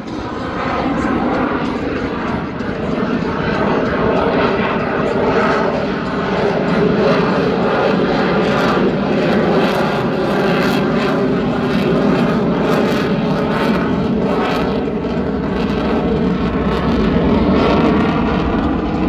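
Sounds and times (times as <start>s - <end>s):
jet fighter flying overhead: 0.0s - 19.0s.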